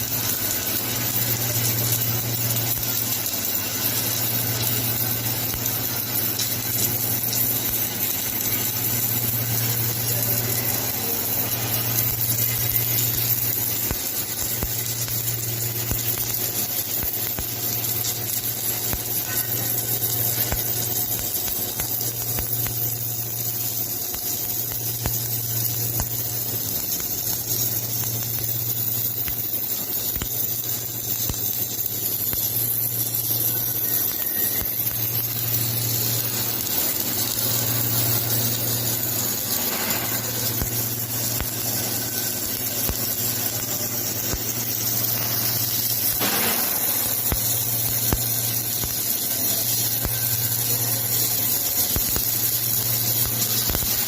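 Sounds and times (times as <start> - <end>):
constant high hiss: 0.0 - 54.0
low electrical hum: 0.0 - 54.0.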